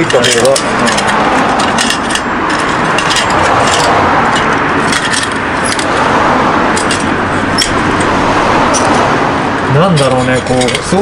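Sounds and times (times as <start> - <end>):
camp stove roaring: 0.0 - 11.0.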